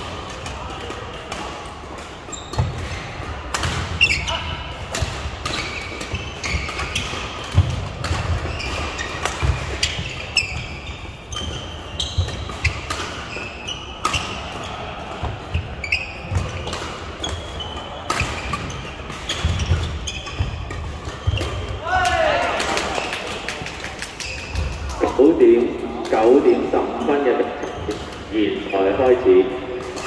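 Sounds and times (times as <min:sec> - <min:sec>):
shoes squeaking on court floor: 0:02.1 - 0:04.8, 0:05.4 - 0:22.3, 0:24.1 - 0:30.0.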